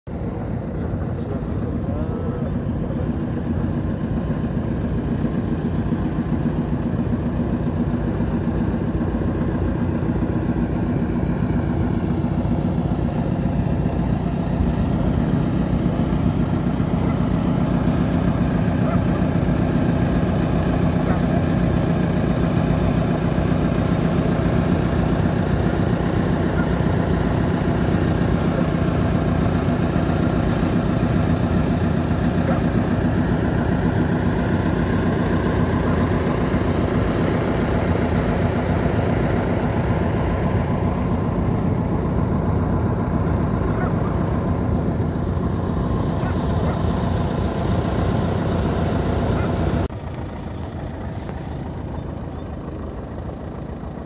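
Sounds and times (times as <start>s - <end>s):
boat engine running: 0.1s - 54.0s.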